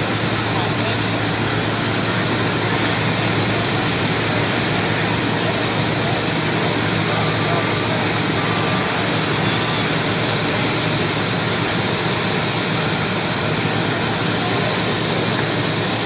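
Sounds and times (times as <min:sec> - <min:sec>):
helicopter engines and rotor: 0:00.0 - 0:16.0.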